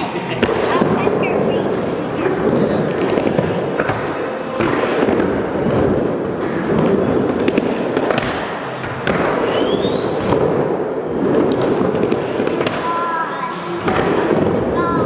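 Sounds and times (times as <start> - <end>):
skateboard wheels rolling on ramps: 0.0 - 13.0, 13.8 - 15.0
skateboard clacks: 0.1 - 13.0, 13.8 - 15.0.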